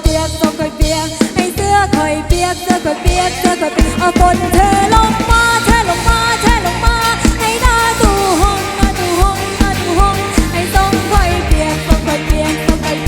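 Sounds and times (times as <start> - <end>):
drum beat: 2.3 - 13.0.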